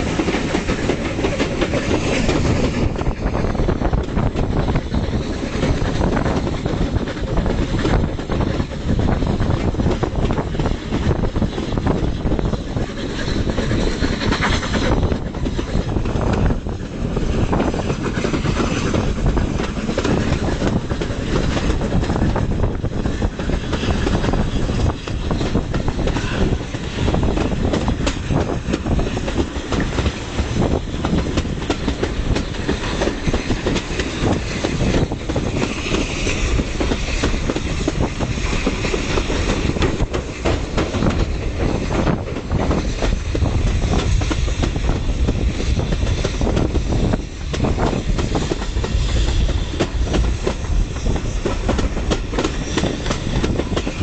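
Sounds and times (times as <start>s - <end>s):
steam locomotives working hard: 0.0s - 54.0s
wind on microphone: 0.0s - 54.0s.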